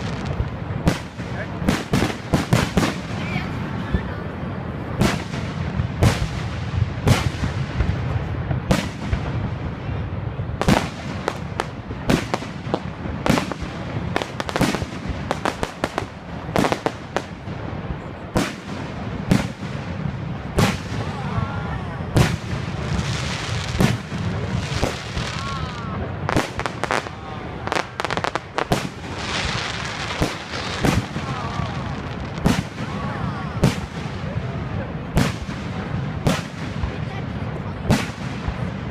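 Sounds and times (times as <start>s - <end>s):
fireworks booming: 0.0s - 38.9s
fireworks crackling: 0.0s - 38.9s.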